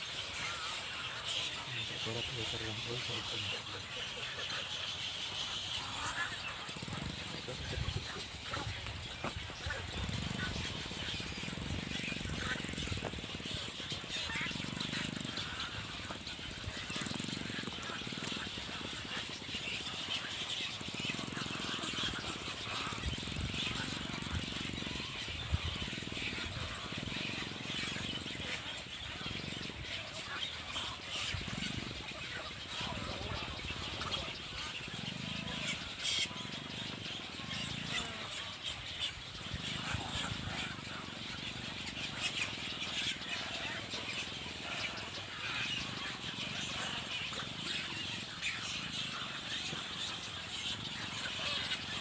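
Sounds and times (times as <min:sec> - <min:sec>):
birds chirping: 0:00.0 - 0:52.0
outdoor background noise: 0:00.0 - 0:52.0
small engine running: 0:00.0 - 0:52.0.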